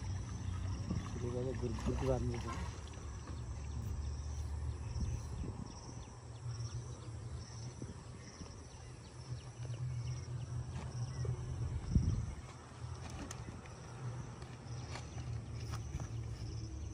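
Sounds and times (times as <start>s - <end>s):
insect chirping in buzzy pulses: 0.0s - 16.9s
steady low rumble: 0.0s - 16.9s.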